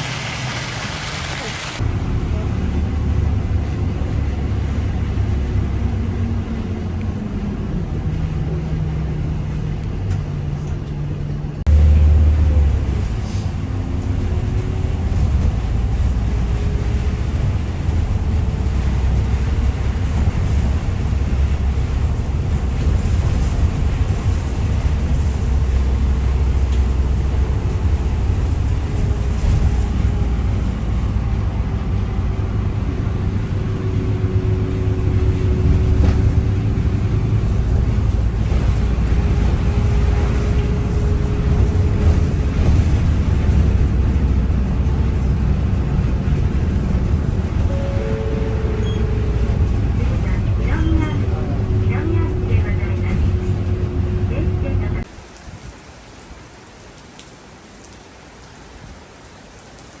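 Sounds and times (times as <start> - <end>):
vehicle interior rumble: 0.0 - 55.8.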